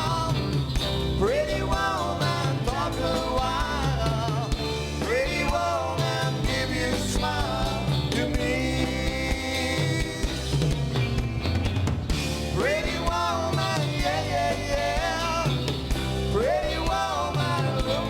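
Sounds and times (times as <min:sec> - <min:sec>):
rock and roll band playing: 0:00.0 - 0:18.0.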